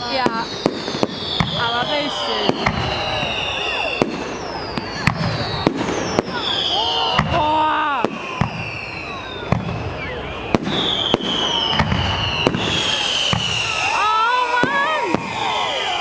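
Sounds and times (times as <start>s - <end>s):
descending firework whistles: 0.0s - 16.0s
fireworks bangs and pops: 0.0s - 16.0s.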